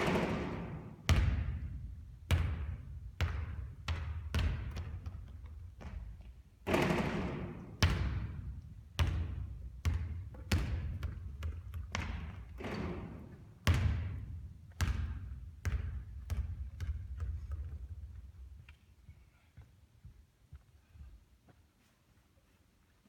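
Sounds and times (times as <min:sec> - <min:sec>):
basketball bouncing on court: 0:00.0 - 0:18.6.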